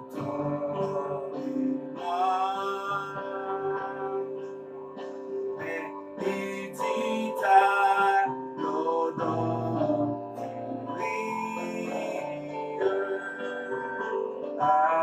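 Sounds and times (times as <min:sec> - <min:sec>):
man singing a hymn: 0:00.0 - 0:04.5, 0:05.6 - 0:15.0
instrumental accompaniment: 0:00.0 - 0:15.0.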